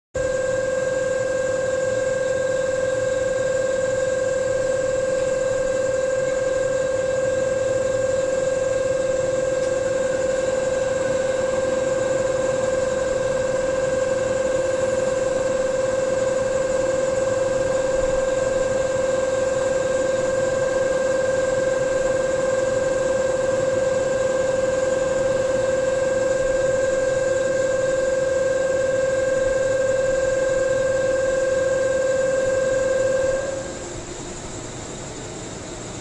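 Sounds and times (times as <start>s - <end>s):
electric train equipment whine: 0.2s - 36.0s.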